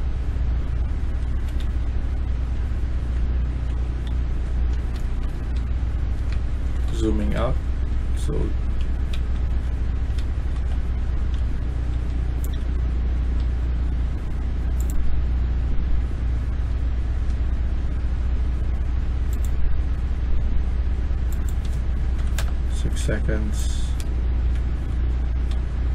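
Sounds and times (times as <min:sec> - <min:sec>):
low hum with hiss: 0:00.0 - 0:25.9.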